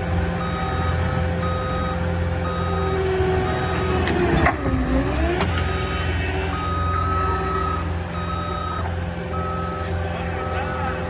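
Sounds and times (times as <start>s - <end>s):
skid steer engine running hard: 0.0s - 11.0s
backup alarm beeping: 0.4s - 4.0s, 5.7s - 11.0s.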